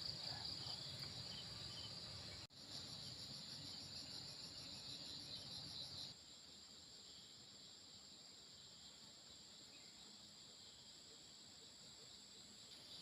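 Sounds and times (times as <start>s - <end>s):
insects chirring: 0.0s - 13.0s
pulsing insect chirp: 0.0s - 13.0s.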